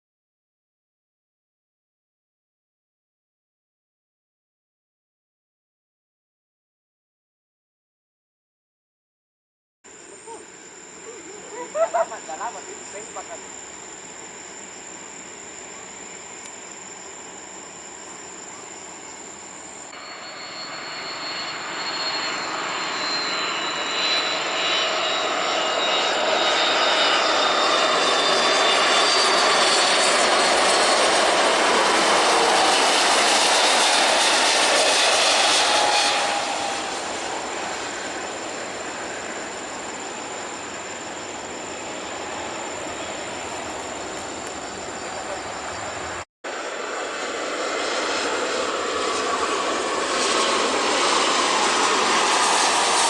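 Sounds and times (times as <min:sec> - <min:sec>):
jet airliner passing: 0:09.9 - 0:53.0.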